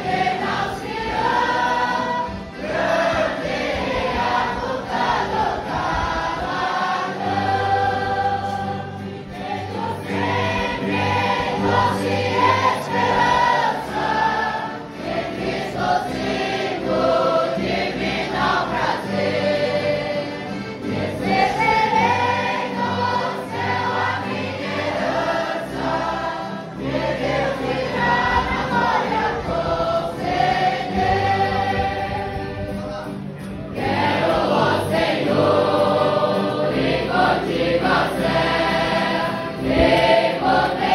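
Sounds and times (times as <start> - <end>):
group singing a hymn: 0.0 - 40.9.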